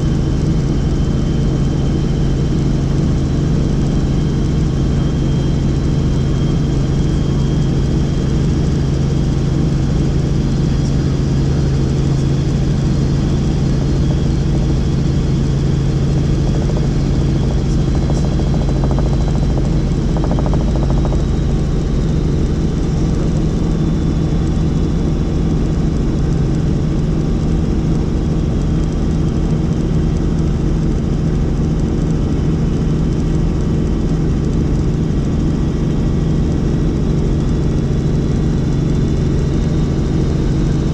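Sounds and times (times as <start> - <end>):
helicopter rotor and turbine drone: 0.0 - 40.9.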